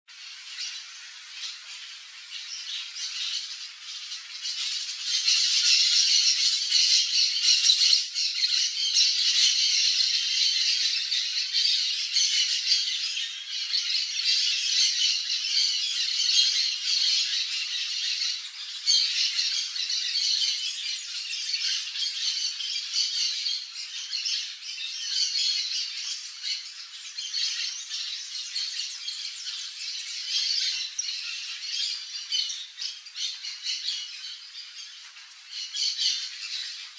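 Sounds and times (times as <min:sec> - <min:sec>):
many birds chattering: 0:00.1 - 0:36.9.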